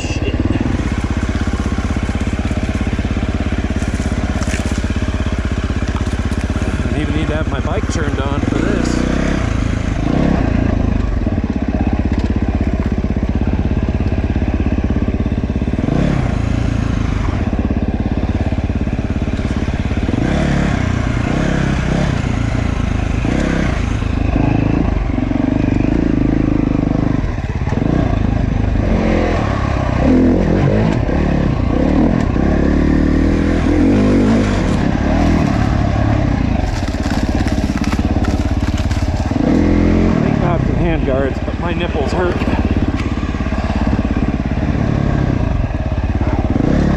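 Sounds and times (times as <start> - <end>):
dirt bike engine: 0.0 - 46.9.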